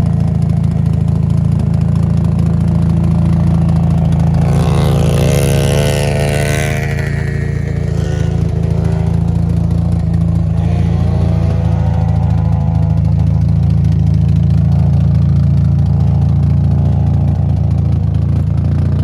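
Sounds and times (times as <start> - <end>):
rotary engine idling: 0.0 - 19.0.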